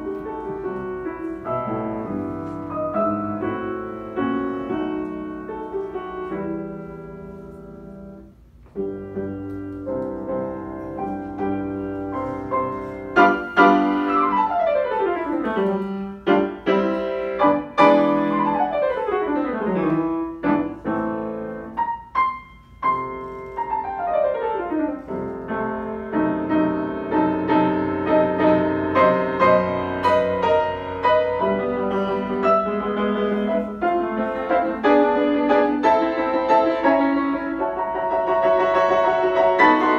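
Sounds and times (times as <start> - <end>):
grand piano playing: 0.0 - 39.9.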